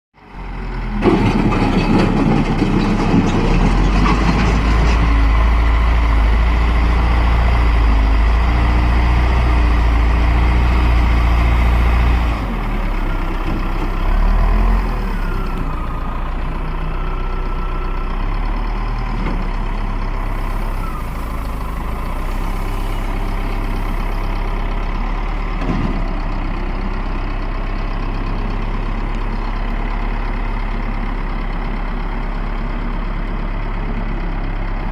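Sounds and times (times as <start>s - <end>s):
wheel loader diesel engine: 0.2s - 34.9s.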